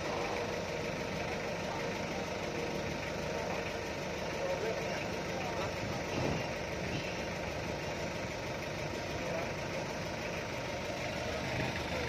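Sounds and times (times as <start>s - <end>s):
forklift engine idling: 0.0s - 12.0s.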